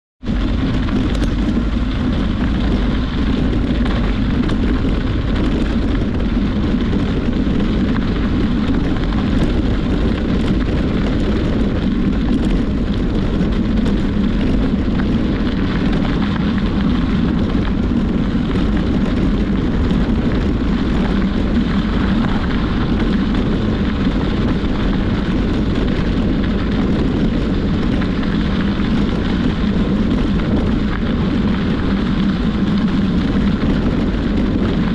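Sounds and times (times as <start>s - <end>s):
bicycle tyre noise: 0.2s - 34.9s
wind on microphone: 0.2s - 34.9s.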